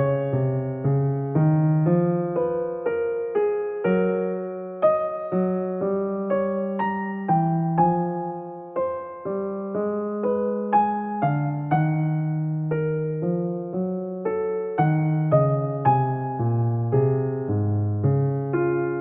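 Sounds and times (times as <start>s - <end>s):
soft electric piano melody: 0.0s - 19.0s.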